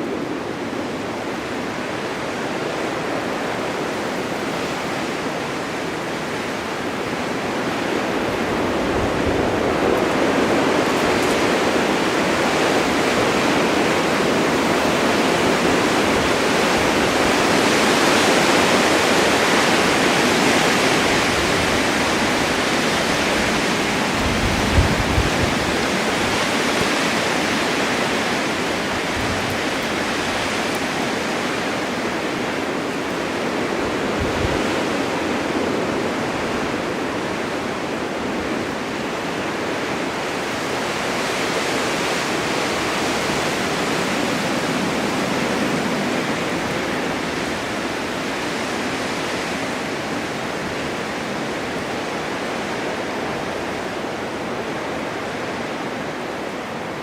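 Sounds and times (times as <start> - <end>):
blizzard wind rushing: 0.0 - 57.0.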